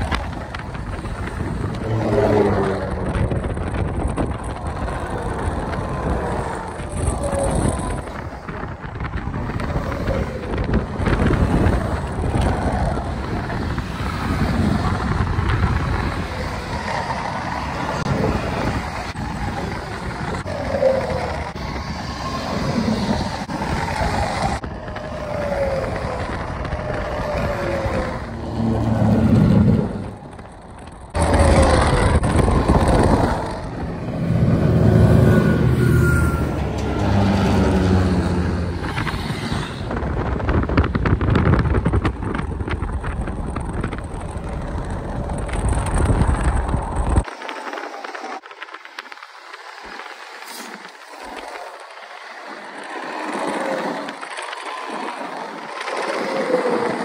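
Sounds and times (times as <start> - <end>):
trucks and cars passing: 0.0 - 57.0.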